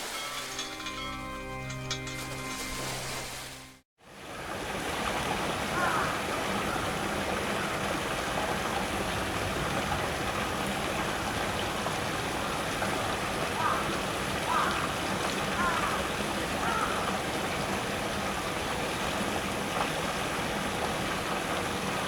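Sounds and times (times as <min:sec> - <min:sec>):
waterfall splashing over rocks: 0:04.3 - 0:22.0.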